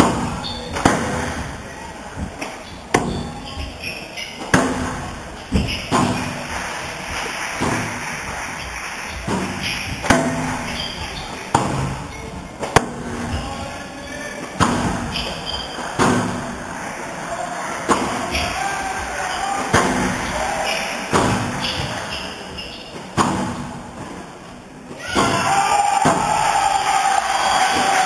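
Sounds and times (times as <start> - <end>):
squash ball impacts: 0.0 - 16.8, 17.8 - 26.5.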